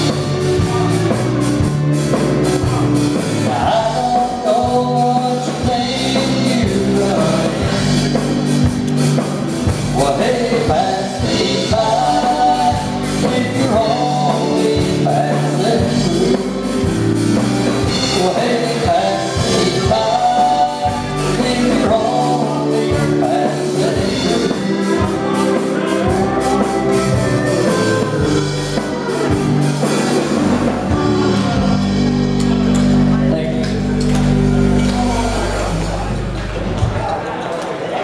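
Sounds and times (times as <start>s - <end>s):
country band playing live: 0.0s - 37.9s.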